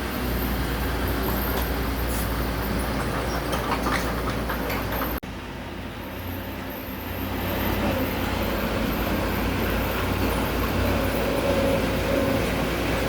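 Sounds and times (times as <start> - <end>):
heavy machinery diesel engine: 0.0 - 13.0.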